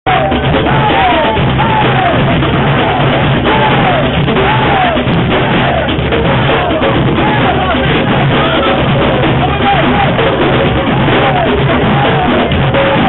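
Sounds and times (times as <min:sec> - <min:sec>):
percussion band drumming: 0:00.0 - 0:13.0.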